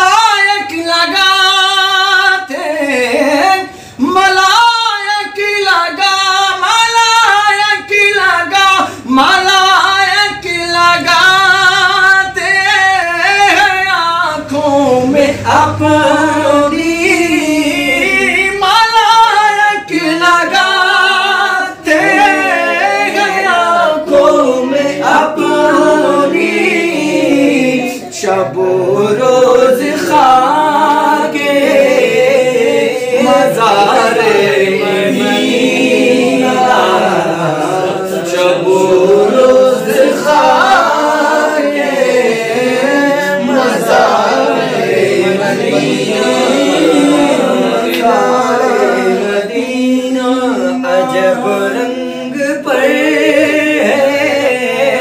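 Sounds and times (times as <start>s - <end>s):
men singing unaccompanied: 0.0s - 55.0s.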